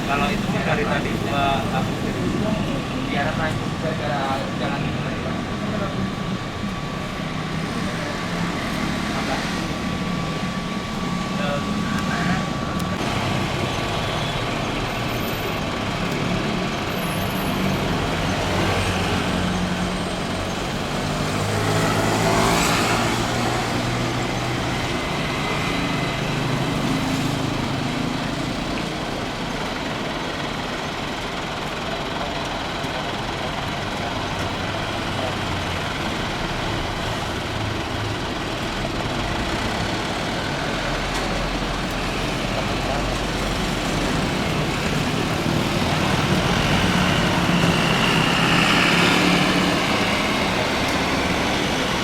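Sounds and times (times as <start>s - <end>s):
heavy machinery engine rumble: 0.0s - 52.0s.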